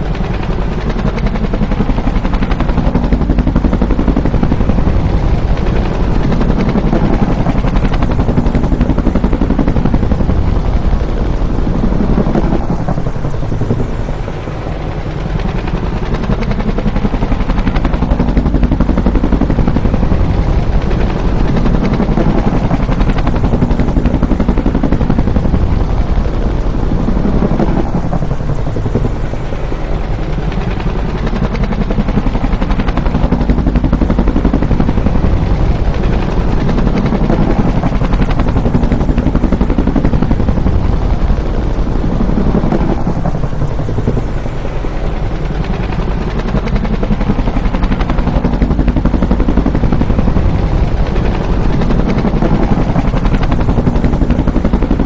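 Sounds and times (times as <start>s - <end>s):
helicopter rotor thumping: 0.0s - 55.0s.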